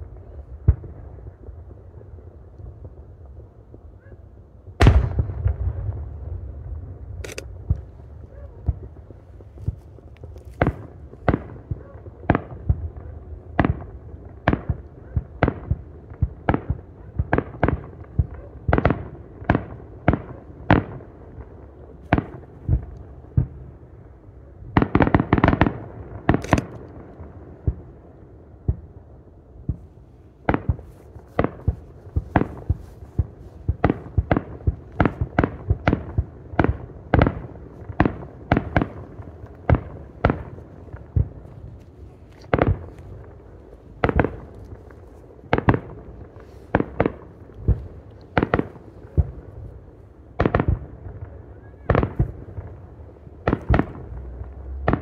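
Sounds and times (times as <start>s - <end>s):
fireworks bursting with sharp bangs: 4.8s - 23.8s, 24.7s - 29.0s, 29.6s - 55.0s.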